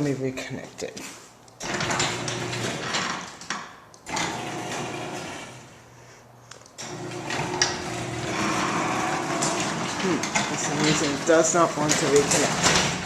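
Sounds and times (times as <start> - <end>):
garage door opener motor hum: 1.6 - 5.8, 6.8 - 13.0.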